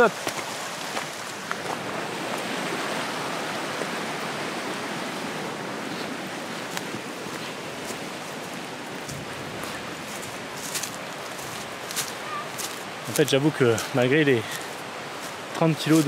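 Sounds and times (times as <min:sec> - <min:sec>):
stream flowing over stones: 0:00.0 - 0:16.0.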